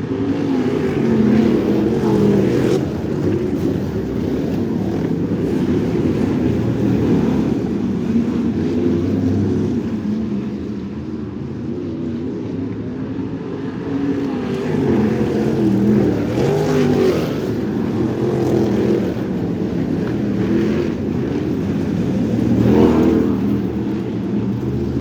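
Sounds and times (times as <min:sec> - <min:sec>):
race car engine revving: 0:00.1 - 0:11.0, 0:13.7 - 0:25.0.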